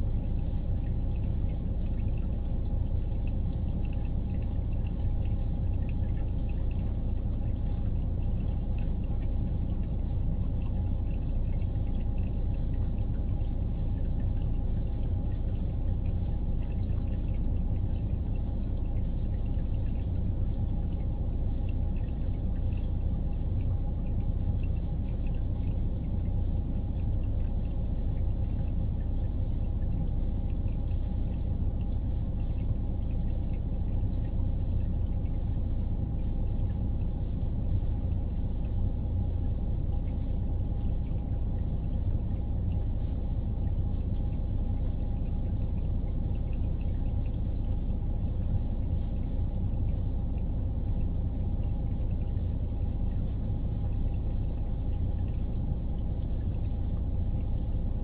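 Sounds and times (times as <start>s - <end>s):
faint continuous hum: 0.0s - 58.0s
floodwater churning low rumble: 0.0s - 58.0s.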